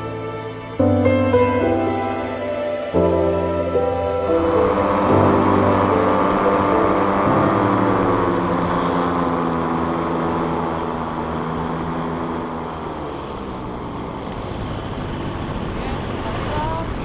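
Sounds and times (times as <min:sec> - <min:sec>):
paramotor engine and propeller: 0:00.0 - 0:17.0.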